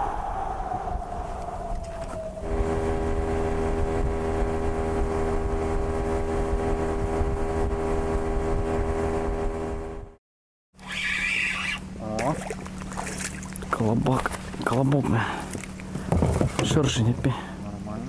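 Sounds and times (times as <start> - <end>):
outboard motor running: 2.4 - 10.2, 10.8 - 18.0.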